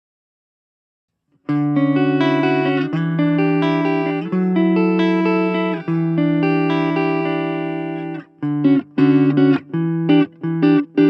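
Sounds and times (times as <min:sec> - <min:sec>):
clean electric guitar chords: 0:01.5 - 0:11.0.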